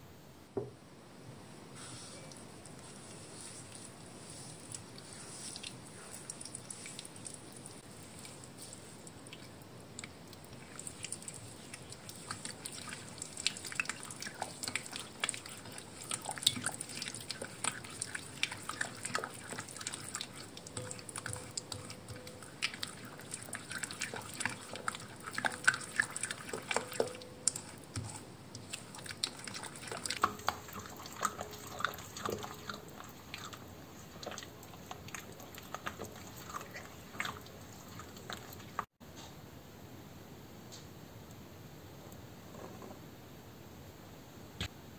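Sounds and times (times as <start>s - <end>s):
spatula stirring batter in glass bowl: 1.8s - 39.0s.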